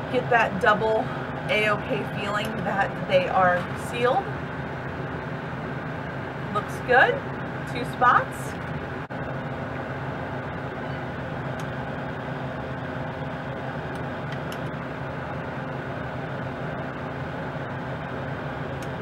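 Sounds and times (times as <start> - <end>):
appliance machine hum: 0.0 - 19.0.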